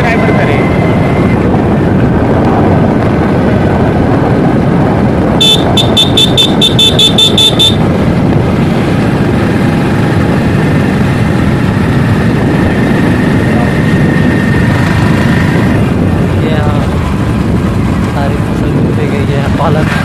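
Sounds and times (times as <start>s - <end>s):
motorbike engine: 0.0s - 20.0s
wind rushing on microphone: 0.0s - 20.0s.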